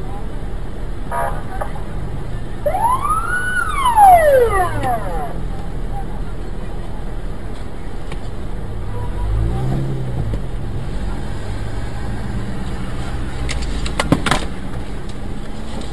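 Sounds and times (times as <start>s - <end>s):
engines rumbling in traffic: 0.0s - 15.9s.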